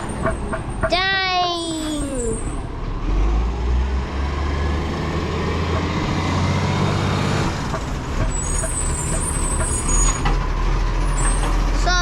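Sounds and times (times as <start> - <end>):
garbage truck engine droning: 0.0 - 12.0.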